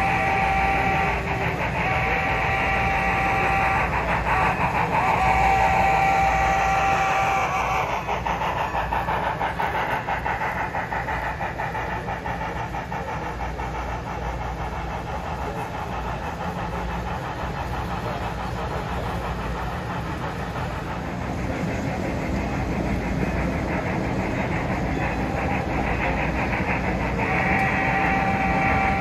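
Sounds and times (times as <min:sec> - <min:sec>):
coaches rolling on rails: 0:00.0 - 0:29.0
model steam locomotive chuffing: 0:00.0 - 0:29.0.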